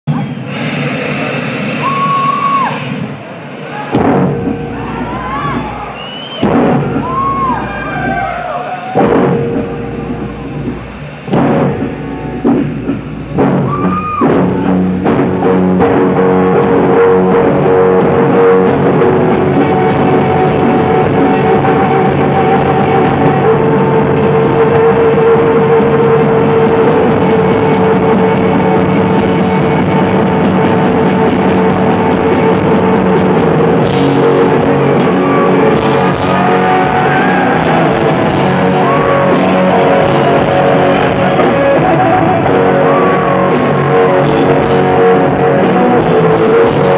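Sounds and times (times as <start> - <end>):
bass notes: 0.0 - 46.9
electric guitar bending notes: 0.4 - 46.9
fast driving drum beat: 3.9 - 46.9.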